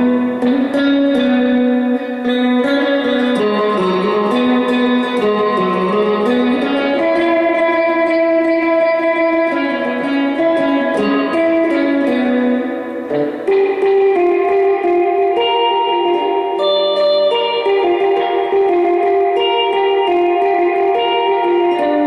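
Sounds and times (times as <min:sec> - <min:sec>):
electric guitar melody with reverb: 0:00.0 - 0:22.0.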